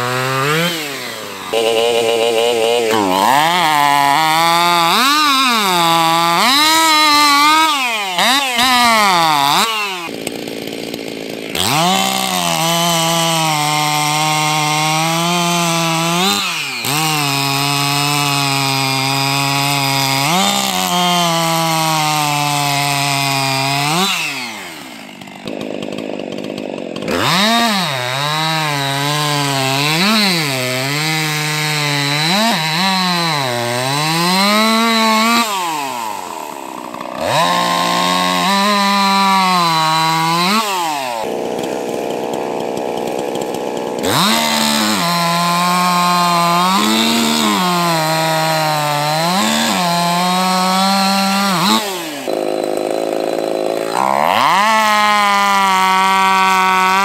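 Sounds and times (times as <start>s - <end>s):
chainsaws cutting timber: 0.0s - 57.0s.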